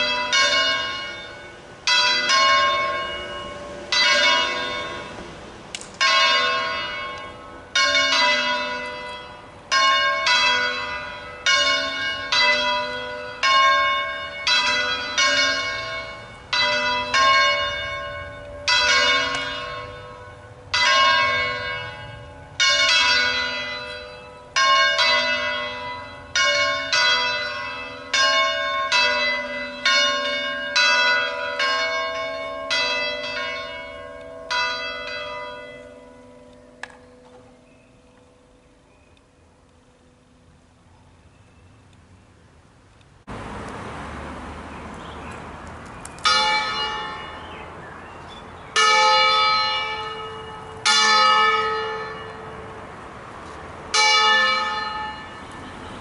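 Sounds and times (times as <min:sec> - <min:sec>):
bells swing-ringing: 0:00.0 - 0:05.2, 0:06.0 - 0:38.9, 0:46.2 - 0:52.8, 0:53.9 - 0:56.0.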